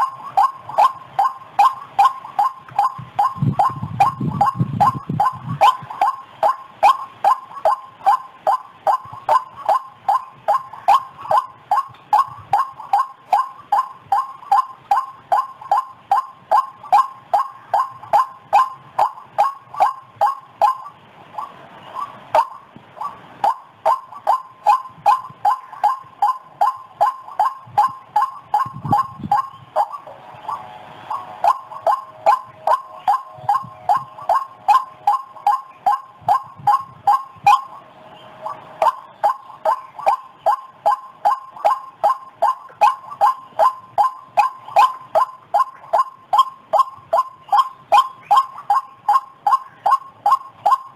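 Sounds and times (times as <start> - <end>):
waterhen calling: 0.0 - 50.9.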